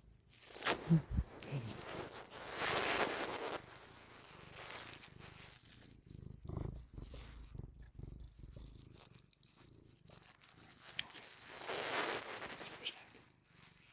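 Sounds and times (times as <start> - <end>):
cat purring: 0.0 - 13.9.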